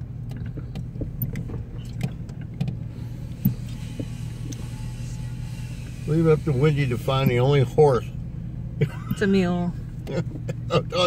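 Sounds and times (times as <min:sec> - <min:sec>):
engine and road hum: 0:00.0 - 0:11.0.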